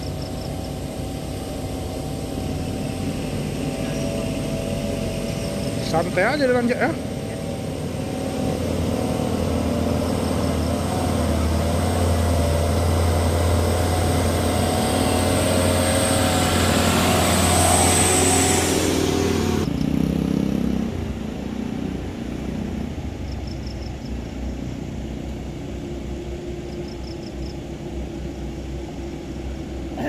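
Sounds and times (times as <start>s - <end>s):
distant truck engine: 0.0s - 30.0s
truck diesel engine pulling hard: 0.0s - 30.0s.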